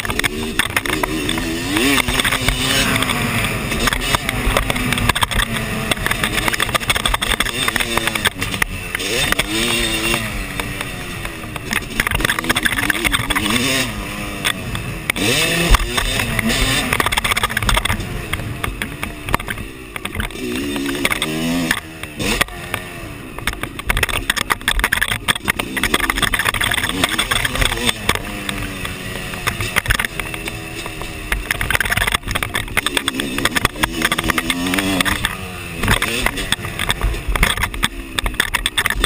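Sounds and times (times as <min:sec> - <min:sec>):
dirt bike engine revving: 0:00.0 - 0:39.0
knocks and rattles from rough ground: 0:00.0 - 0:39.0.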